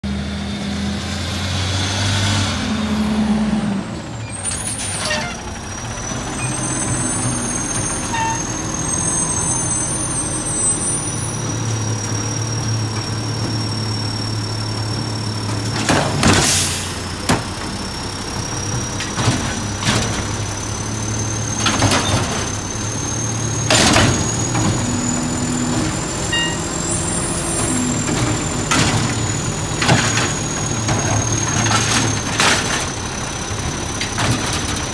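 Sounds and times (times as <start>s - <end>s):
garbage truck engine idling: 3.8s - 34.9s.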